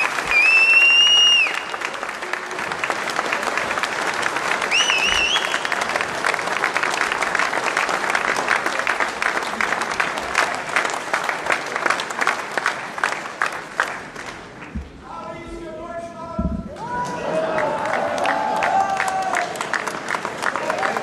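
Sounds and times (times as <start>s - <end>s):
audience applauding: 0.0s - 16.0s, 16.8s - 21.0s.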